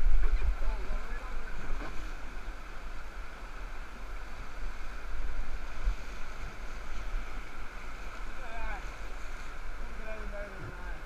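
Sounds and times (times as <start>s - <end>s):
whitewater rapids rushing: 0.0s - 11.0s
wind rumbling on microphone: 0.0s - 11.0s.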